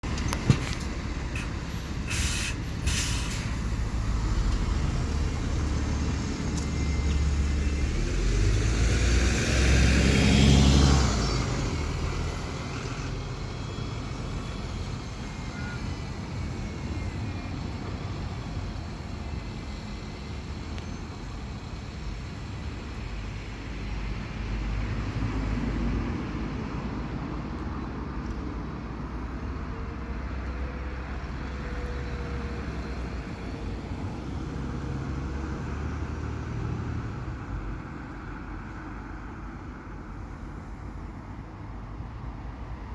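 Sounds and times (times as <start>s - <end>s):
bus engine passing: 0.0s - 42.9s.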